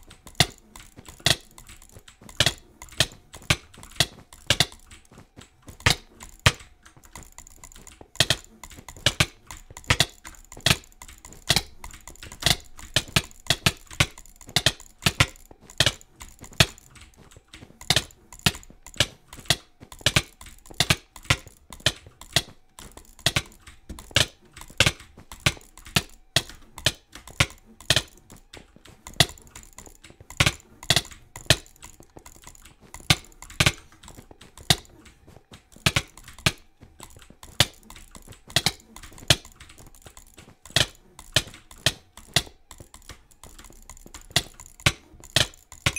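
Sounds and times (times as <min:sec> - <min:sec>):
sharp clicks: 0:00.0 - 0:45.9.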